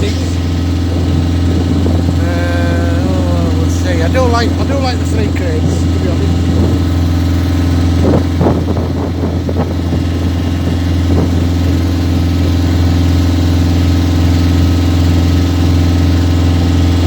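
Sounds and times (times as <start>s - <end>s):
motor boat engine droning: 0.0s - 17.0s.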